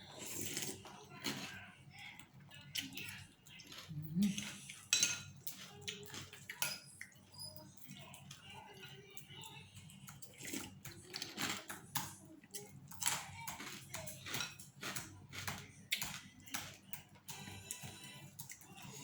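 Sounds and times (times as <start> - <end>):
slurping and chewing: 0.0 - 19.0
utensils clicking against bowl: 2.7 - 19.0.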